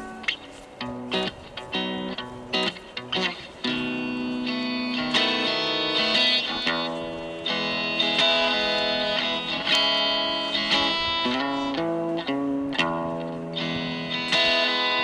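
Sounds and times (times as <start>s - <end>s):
electric guitar strummed chords: 0.0s - 15.0s.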